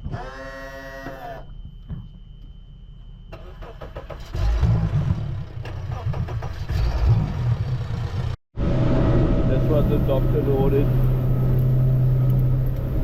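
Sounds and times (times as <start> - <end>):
engine rumbling: 1.5 - 13.0.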